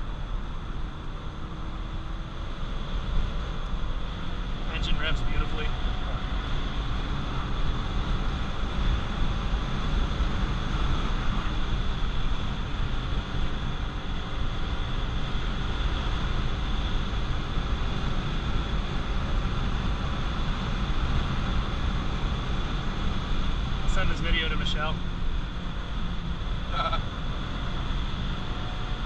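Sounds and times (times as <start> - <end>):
car engine running: 0.0 - 29.0
road and wind noise: 0.0 - 29.0.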